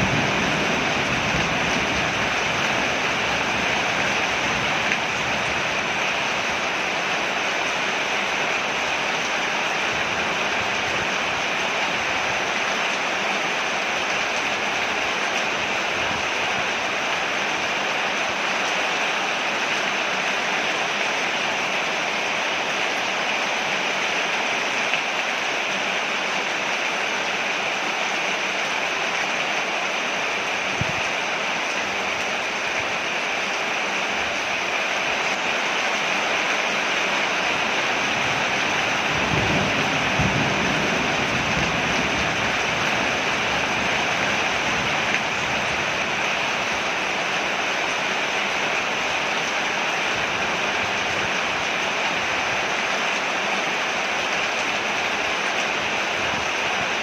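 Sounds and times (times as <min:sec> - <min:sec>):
heavy rain on a porch: 0:00.0 - 0:57.0.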